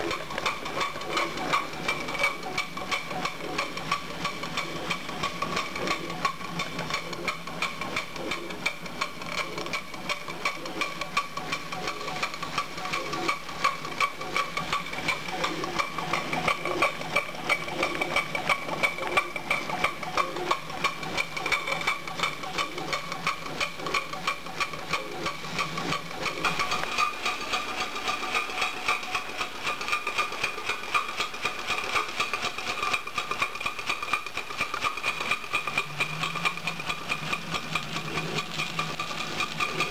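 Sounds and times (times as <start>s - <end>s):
mechanism clicks: 0.0s - 39.9s
steam engine exhaust beat: 0.0s - 39.9s.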